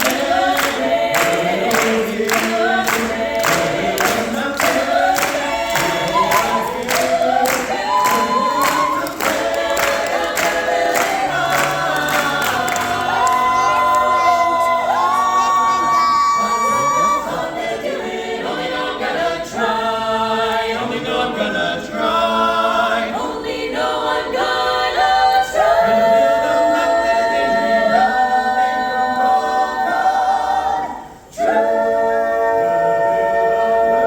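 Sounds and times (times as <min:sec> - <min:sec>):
vocal group singing in harmony: 0:00.0 - 0:34.0.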